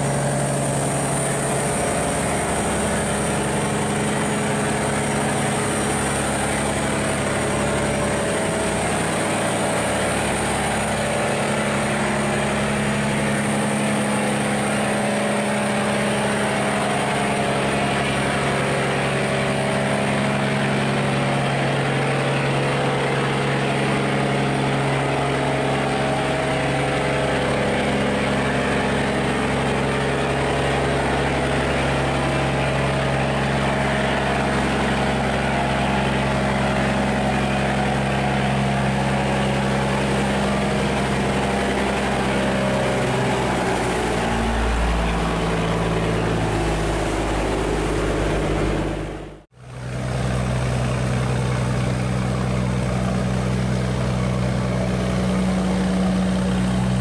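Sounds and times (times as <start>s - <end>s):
diesel engine running: 0.0s - 57.0s
fast-flowing water rushing: 0.0s - 57.0s.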